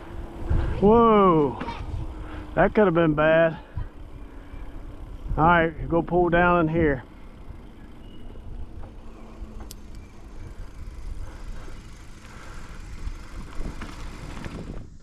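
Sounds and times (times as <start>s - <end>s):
wind rumbling on microphone: 0.0s - 2.8s, 3.7s - 15.0s
bicycle tyre noise: 0.0s - 15.0s.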